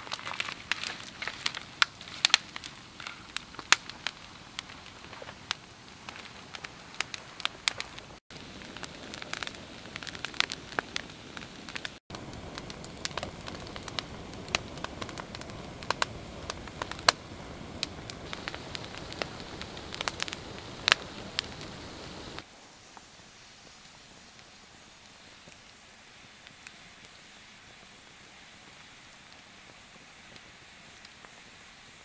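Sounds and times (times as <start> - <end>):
campfire crackling and popping: 0.0 - 32.0
hiss of burning fire: 0.0 - 32.0.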